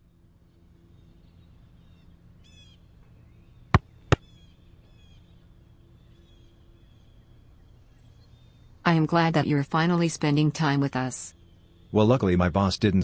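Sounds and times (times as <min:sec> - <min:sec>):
faint bird chirping: 0:00.0 - 0:13.0
low background hum: 0:00.0 - 0:13.0.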